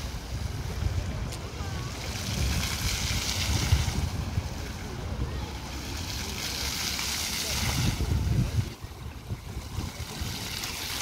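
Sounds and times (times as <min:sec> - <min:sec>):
fountain water jets spraying: 0:00.0 - 0:11.0
wind buffeting microphone: 0:00.0 - 0:11.0.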